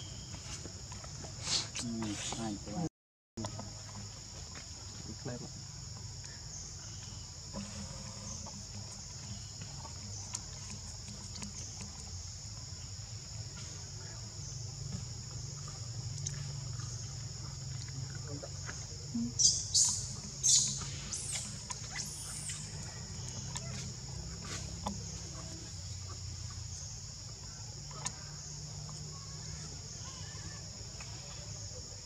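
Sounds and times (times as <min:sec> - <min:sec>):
high-pitched insect drone: 0:01.5 - 0:32.0.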